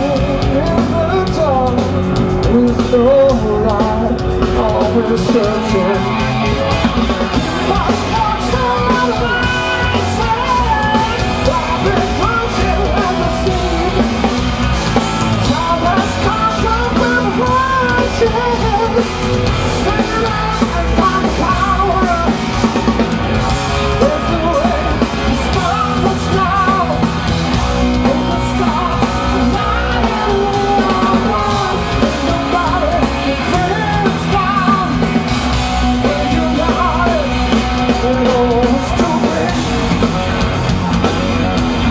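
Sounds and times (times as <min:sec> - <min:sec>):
bass guitar: 0:00.0 - 0:41.9
drum kit: 0:00.0 - 0:41.9
electric guitar: 0:00.0 - 0:41.9
person singing lead vocal: 0:00.0 - 0:41.9.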